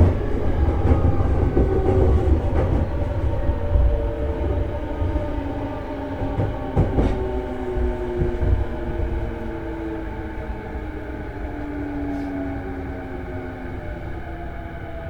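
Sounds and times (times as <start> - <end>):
train wheel and track rumble: 0.0 - 15.0.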